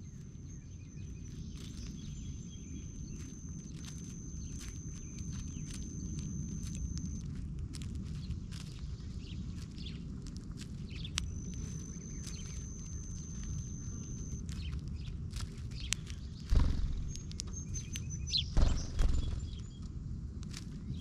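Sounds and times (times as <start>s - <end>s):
low rumble: 0.0s - 21.0s
small birds chirping: 0.0s - 21.0s.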